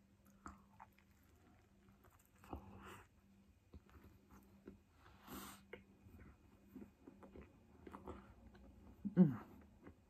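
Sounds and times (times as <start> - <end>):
faint chewing: 0.0 - 10.0.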